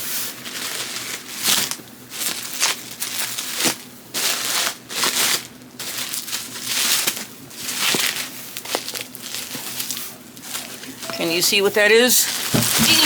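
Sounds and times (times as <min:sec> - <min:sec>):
bubble wrap crinkling: 0:00.0 - 0:11.1, 0:12.2 - 0:13.0.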